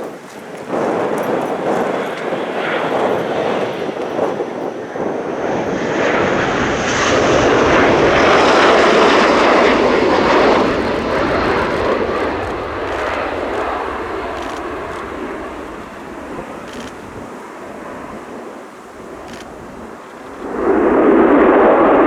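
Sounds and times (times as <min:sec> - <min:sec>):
high turbine whine: 0:00.0 - 0:22.0
jet engine roar: 0:00.0 - 0:22.0.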